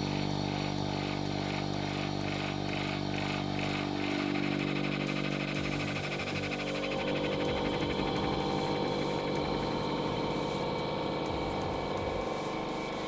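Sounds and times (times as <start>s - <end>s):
vacuum pump motor hum: 0.0s - 13.0s.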